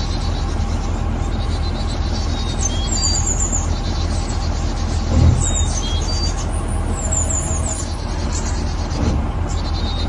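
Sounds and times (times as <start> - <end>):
birds chirping: 0.0 - 10.0
steady low rumble: 0.0 - 10.0.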